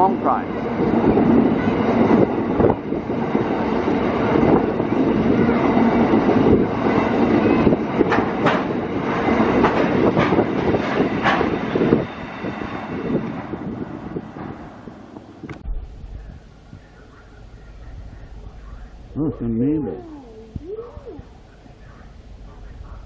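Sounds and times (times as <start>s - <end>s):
train wagons rumbling on rails: 0.0s - 19.2s.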